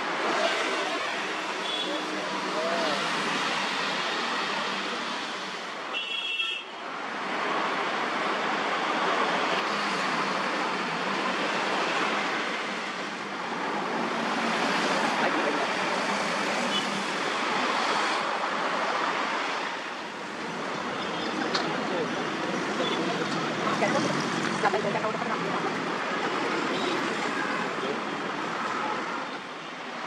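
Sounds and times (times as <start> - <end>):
road traffic driving past: 0.0 - 5.9, 6.8 - 30.0.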